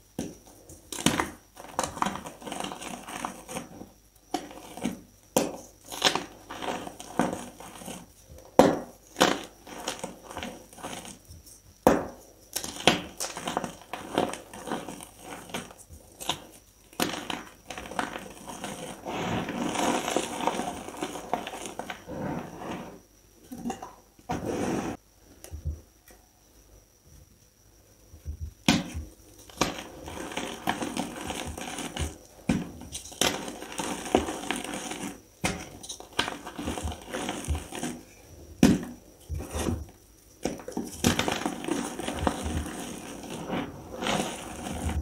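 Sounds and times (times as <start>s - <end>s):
chalk crunching and crumbling: 0.3s - 23.0s, 28.7s - 45.0s.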